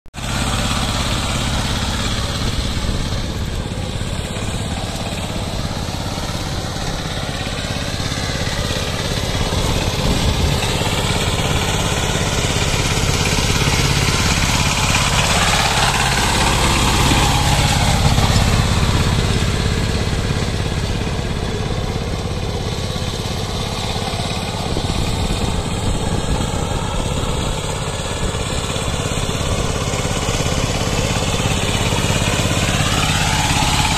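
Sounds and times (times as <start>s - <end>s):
rotavator churning mud: 0.2s - 33.9s
tiller diesel engine chugging: 0.2s - 33.9s.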